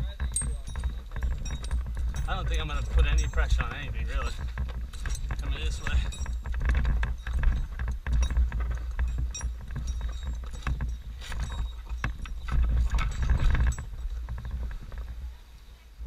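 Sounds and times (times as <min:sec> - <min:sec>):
climbing gear knocks and clinks: 0:00.0 - 0:15.2
low rumble on microphone: 0:00.0 - 0:16.0.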